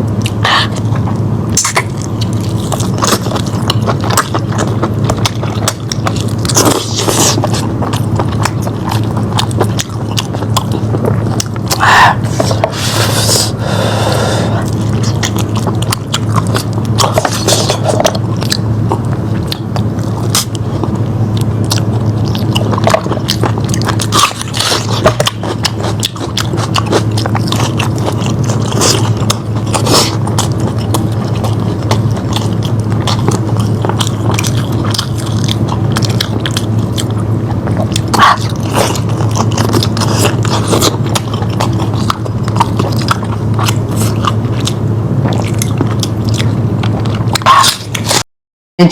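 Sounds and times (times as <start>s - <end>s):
low hum: 0.0s - 48.2s
person chewing and smacking meat: 0.0s - 48.2s.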